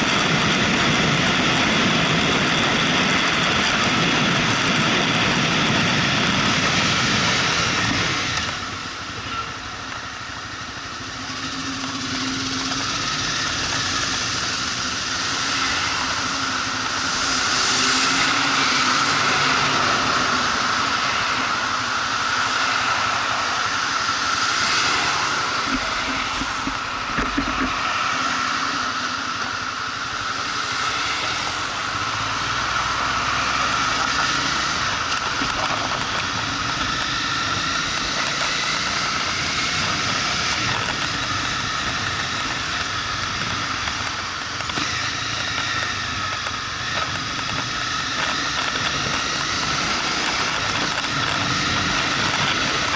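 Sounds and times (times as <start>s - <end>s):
motorcycle engine: 0.0s - 52.9s
road noise: 0.0s - 52.9s.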